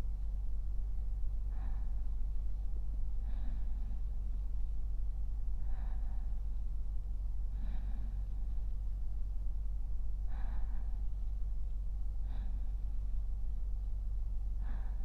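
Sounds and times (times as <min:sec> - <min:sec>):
man's soft sleeping breaths: 0:00.0 - 0:15.0.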